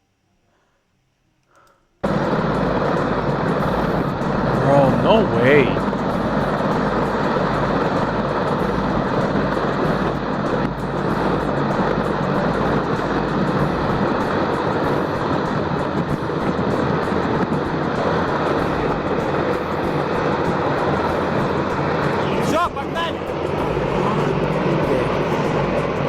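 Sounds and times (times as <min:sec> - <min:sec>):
helicopter turbine engines and rotor: 0:02.0 - 0:26.0.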